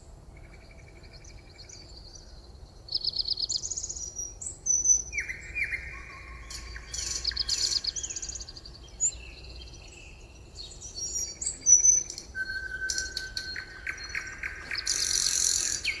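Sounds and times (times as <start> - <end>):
songbirds singing and calling: 0.0 - 16.0.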